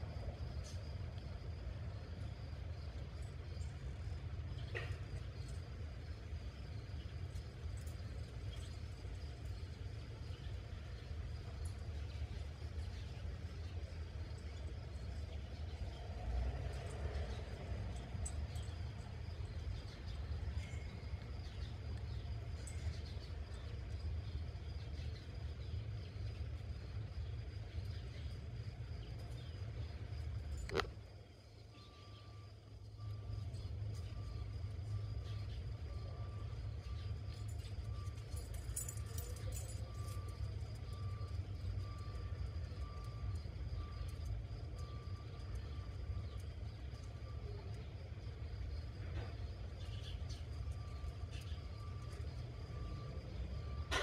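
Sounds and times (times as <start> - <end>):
low outdoor rumble: 0.0 - 54.0.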